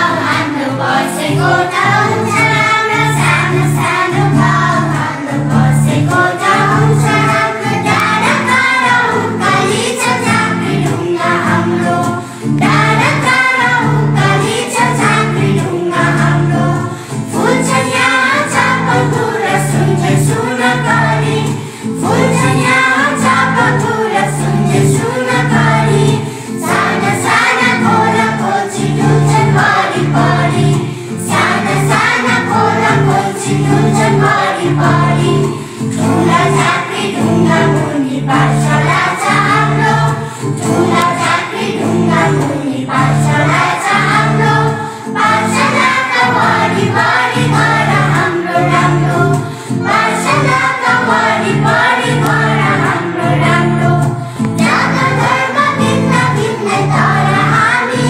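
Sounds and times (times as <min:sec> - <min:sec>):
children's choir singing: 0:00.0 - 0:58.0
instrumental accompaniment: 0:00.0 - 0:58.0.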